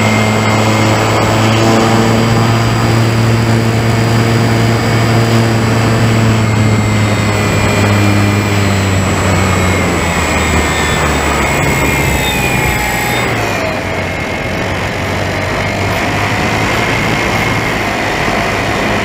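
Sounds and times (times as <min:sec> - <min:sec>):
model plane motor drone: 0:00.0 - 0:19.0.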